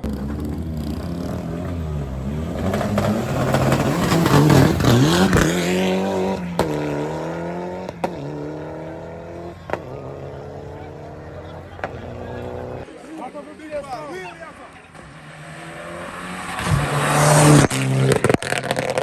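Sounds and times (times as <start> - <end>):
race car engine accelerating: 0.0 - 12.9, 14.9 - 19.0
sharp cracks at upshifts: 0.0 - 12.9, 16.4 - 19.0.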